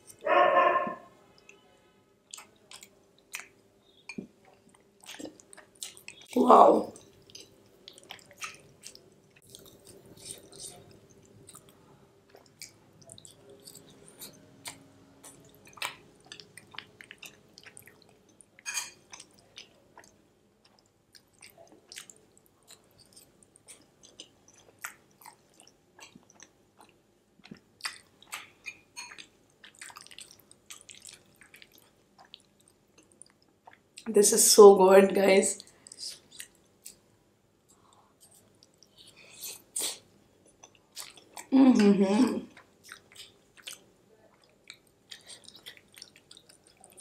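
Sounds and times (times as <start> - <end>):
wet mouth chewing: 2.3 - 6.4, 7.0 - 34.1, 35.8 - 37.0, 37.7 - 41.5, 42.6 - 47.0.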